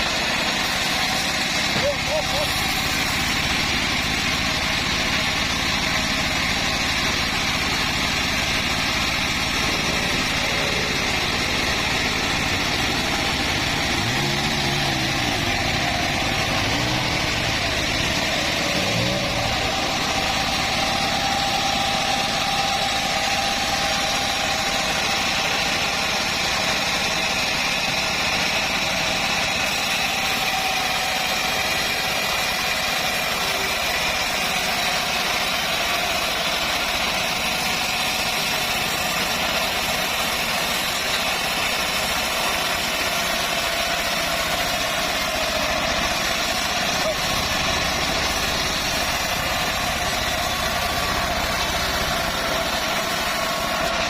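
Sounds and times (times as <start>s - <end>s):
bandsaw mill drone and whine: 0.0s - 54.0s.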